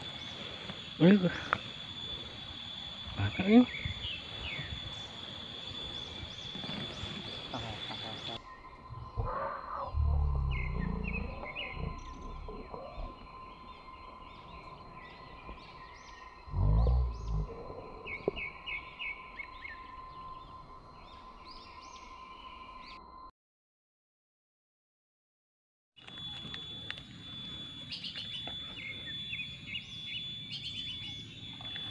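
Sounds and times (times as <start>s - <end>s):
birds chirping: 0.0s - 23.3s, 26.0s - 31.9s
thin high tone: 0.0s - 23.3s, 26.0s - 31.9s.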